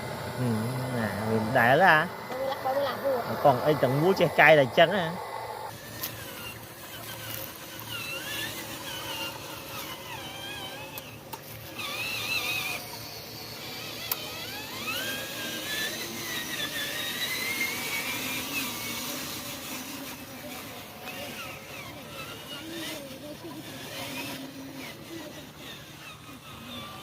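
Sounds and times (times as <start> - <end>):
small electric motors whining: 0.0 - 27.0.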